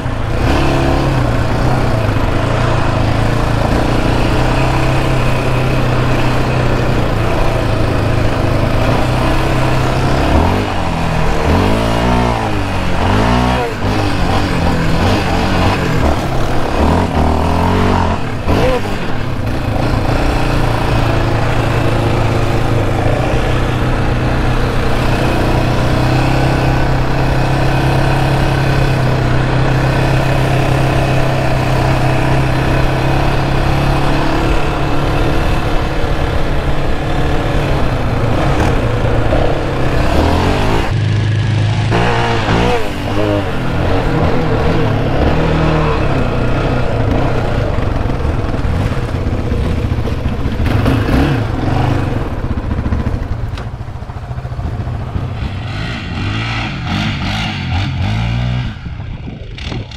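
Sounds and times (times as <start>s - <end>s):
distant quad engine: 0.0s - 59.9s
quad engine revving: 0.0s - 59.9s.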